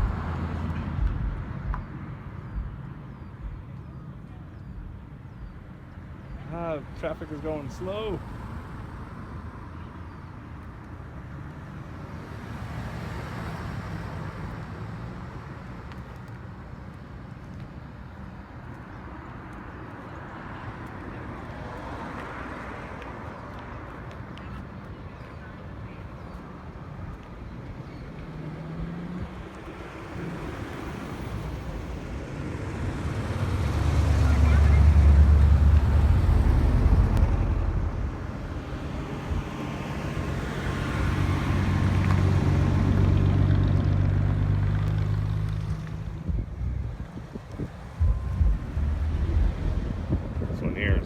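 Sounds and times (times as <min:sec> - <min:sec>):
cars passing in slow traffic: 0:00.0 - 0:51.0.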